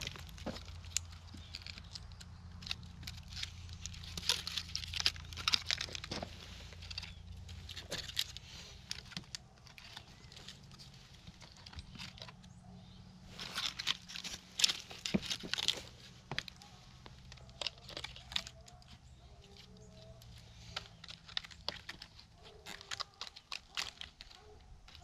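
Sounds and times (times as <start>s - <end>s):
rustling and crackling: 0.0s - 25.0s.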